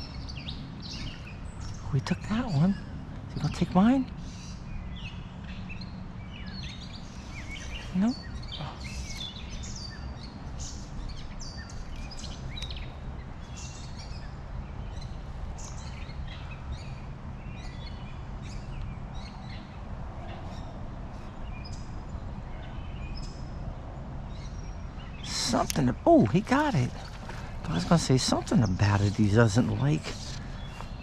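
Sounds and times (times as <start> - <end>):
low background rush: 0.0 - 31.0
songbirds chirping: 0.0 - 31.0.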